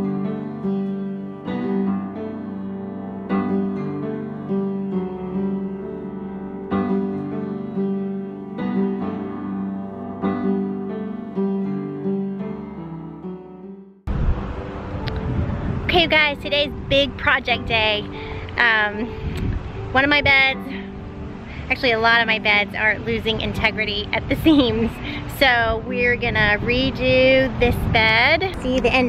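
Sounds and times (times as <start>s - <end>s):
piano chords ringing: 0.0s - 29.0s.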